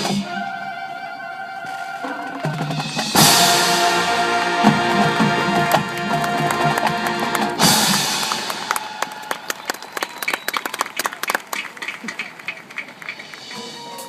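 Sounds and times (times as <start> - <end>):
drums: 0.0 - 14.0
marching band playing: 0.0 - 14.0.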